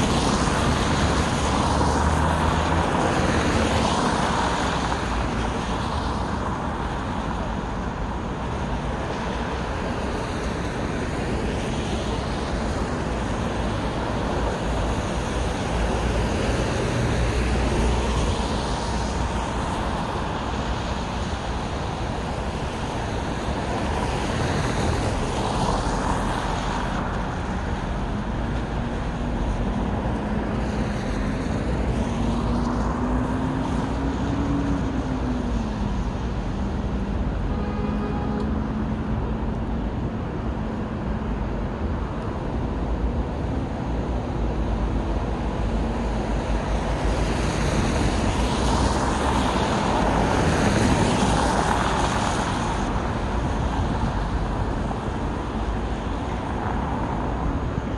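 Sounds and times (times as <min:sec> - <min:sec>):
city road traffic: 0:00.0 - 0:57.9.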